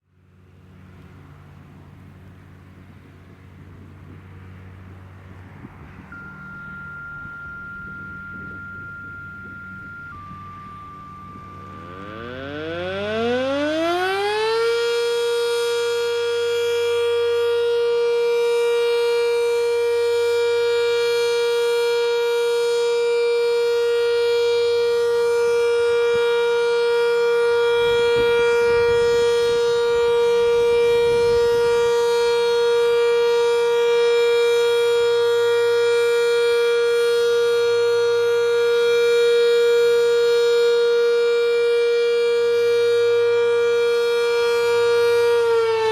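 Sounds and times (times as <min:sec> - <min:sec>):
warning siren winding up: 0:06.1 - 0:45.9.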